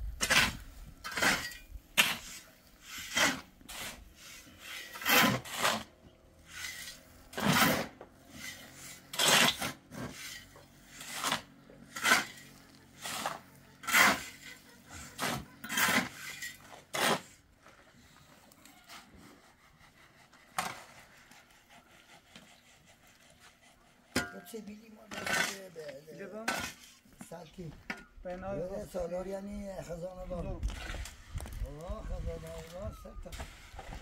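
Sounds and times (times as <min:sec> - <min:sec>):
rasping scrape strokes: 0:00.2 - 0:27.1, 0:30.6 - 0:34.0.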